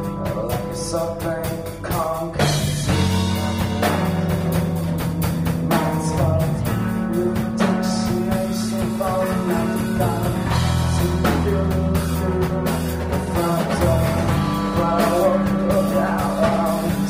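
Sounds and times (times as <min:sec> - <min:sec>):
person singing: 0:00.0 - 0:05.0, 0:05.7 - 0:17.0
steady drum beat: 0:00.0 - 0:17.0
strummed electric guitar: 0:00.0 - 0:17.0.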